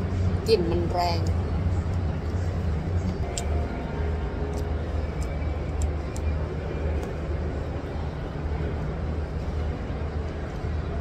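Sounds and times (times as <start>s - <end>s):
low machinery rumble: 0.0s - 11.0s.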